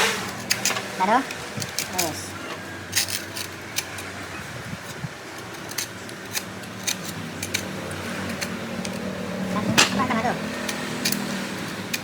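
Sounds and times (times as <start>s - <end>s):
hand tools clicking and scraping: 0.0s - 12.0s.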